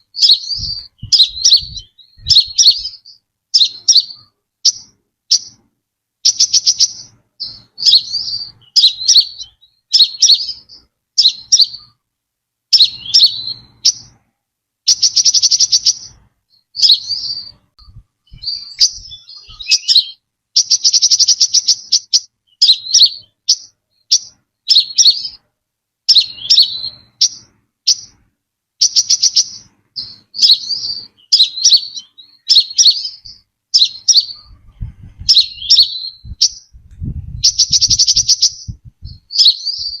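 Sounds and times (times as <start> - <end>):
bird chirping and trilling: 0.0 - 5.6, 6.2 - 12.0, 12.7 - 14.2, 14.9 - 25.5, 26.1 - 28.2, 28.8 - 40.0.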